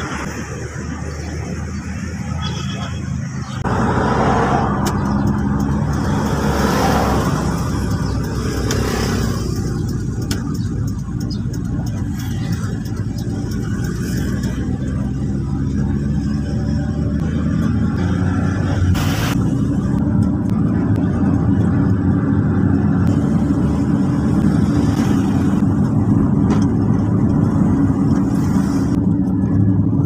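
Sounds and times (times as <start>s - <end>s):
road and wind noise: 0.0s - 30.0s
vehicle engine running: 0.0s - 30.0s.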